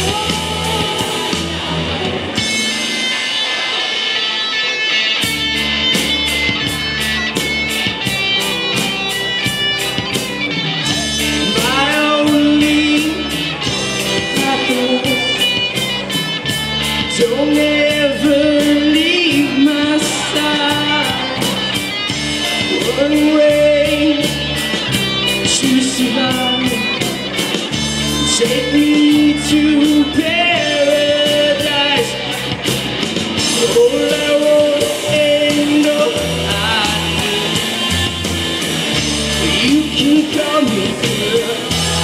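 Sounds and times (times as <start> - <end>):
drums keeping a steady beat: 0.0 - 42.0
electric guitars: 0.0 - 42.0
sliding lead melody: 0.0 - 42.0.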